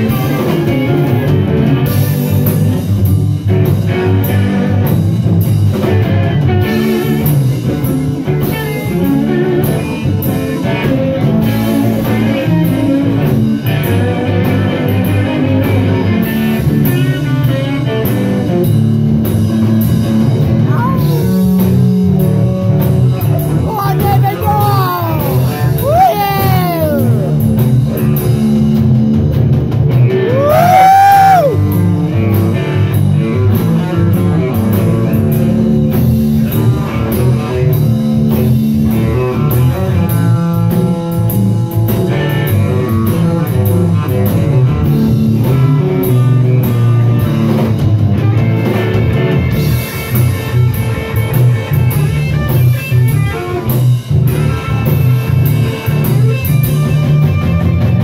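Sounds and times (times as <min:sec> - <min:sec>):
live blues band playing: 0:00.0 - 0:58.0.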